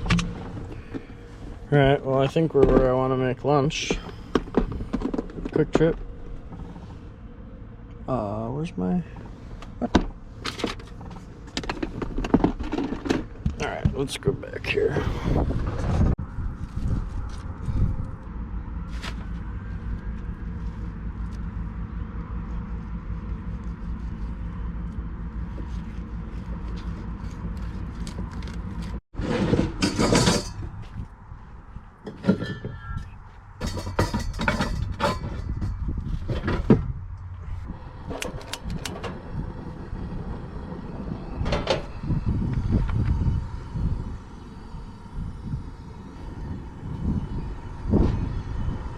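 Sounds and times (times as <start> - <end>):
low engine hum: 0.0 - 29.0, 30.2 - 48.9.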